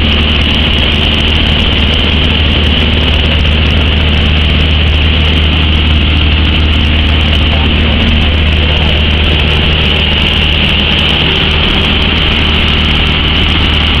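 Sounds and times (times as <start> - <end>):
light aircraft engine drone: 0.0 - 14.0.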